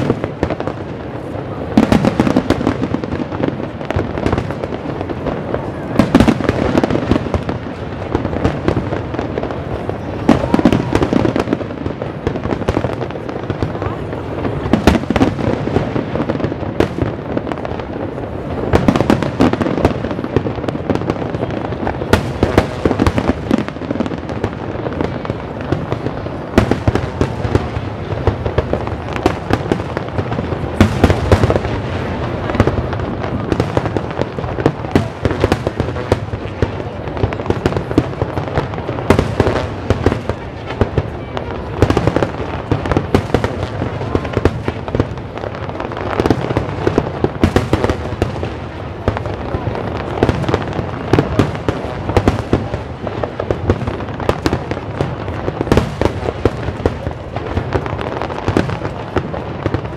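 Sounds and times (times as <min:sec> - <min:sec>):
fireworks bursts and bangs: 0:00.0 - 0:59.9
fireworks crackling: 0:00.0 - 0:59.9.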